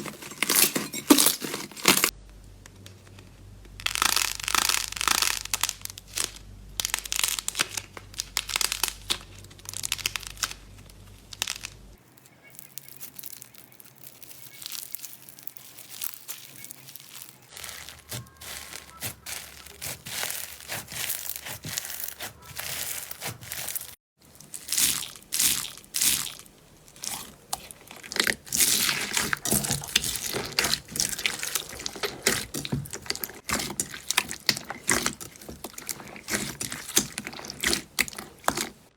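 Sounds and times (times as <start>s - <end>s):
slime squelching and crackling: 0.0s - 2.1s, 3.8s - 38.9s.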